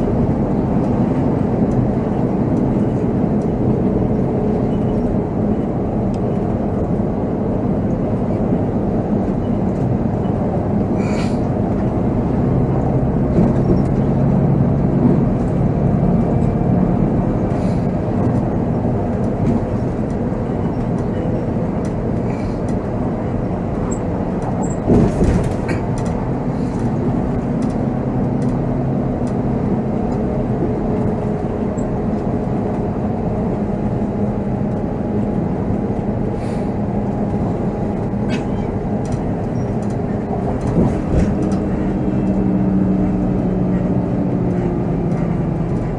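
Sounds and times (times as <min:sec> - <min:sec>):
diesel coach engine running: 0:00.0 - 0:45.9
road noise: 0:00.0 - 0:45.9.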